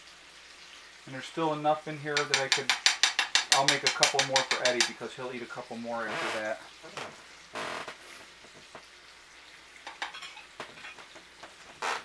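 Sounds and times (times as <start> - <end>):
pancakes sizzling on griddle: 0.0 - 12.0.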